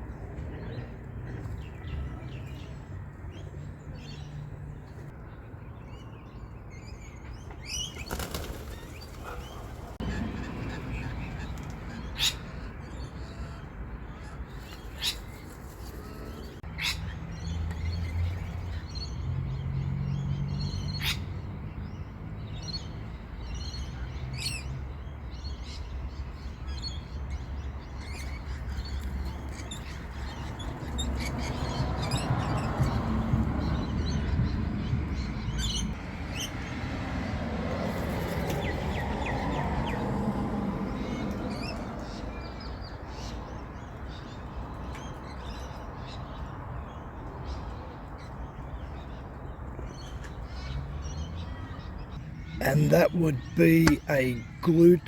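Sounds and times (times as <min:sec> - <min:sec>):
birds chirping: 0:00.1 - 0:21.3, 0:22.6 - 0:36.5, 0:41.0 - 0:55.0.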